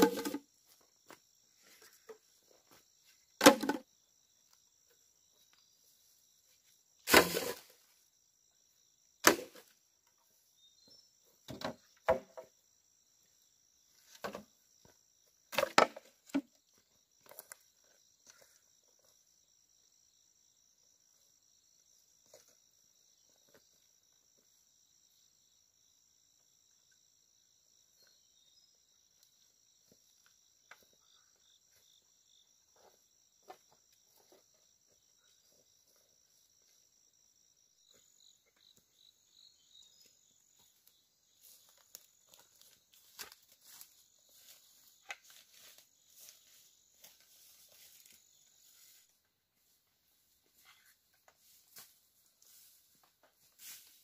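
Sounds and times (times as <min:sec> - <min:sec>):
forest insects droning: 0:00.0 - 0:54.0.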